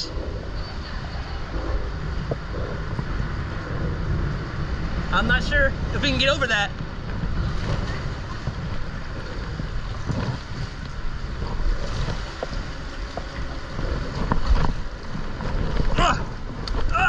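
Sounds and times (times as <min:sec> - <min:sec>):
river current rushing: 0:00.0 - 0:17.0
wind on microphone: 0:00.0 - 0:17.0.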